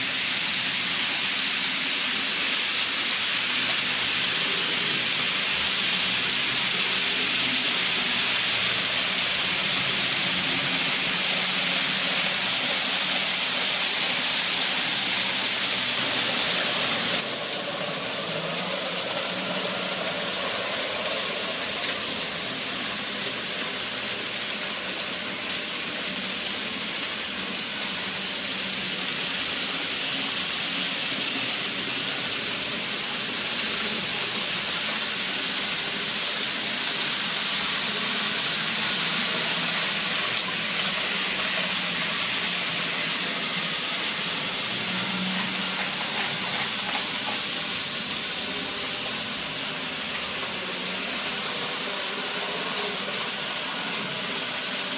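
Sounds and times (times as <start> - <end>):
model trains whirring on rails: 0.0 - 54.9.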